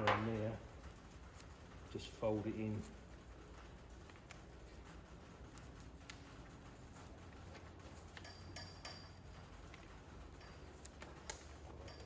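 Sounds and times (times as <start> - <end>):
light ticks and rustles of tape: 0.2 - 12.0.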